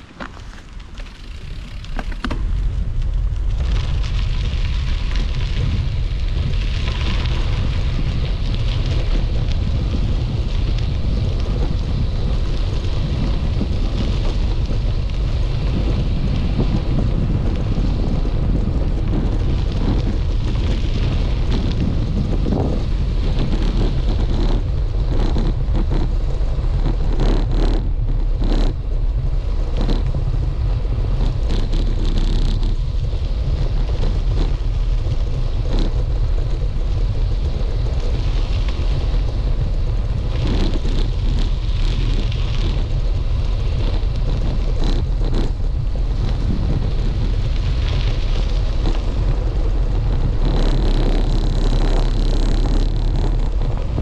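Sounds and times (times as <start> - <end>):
wind rush and road rumble: 0.0 - 54.0.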